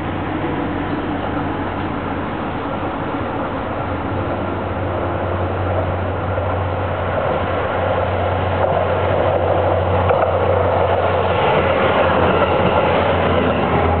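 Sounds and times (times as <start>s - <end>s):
diesel engine humming: 0.0s - 14.0s
train wheels on rails: 0.0s - 14.0s.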